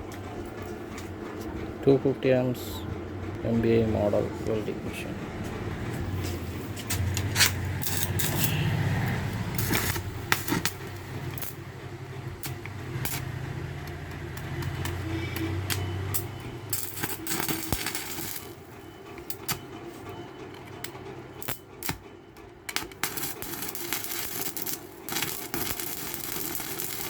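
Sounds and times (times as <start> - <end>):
welding machine humming: 0.0 - 27.0.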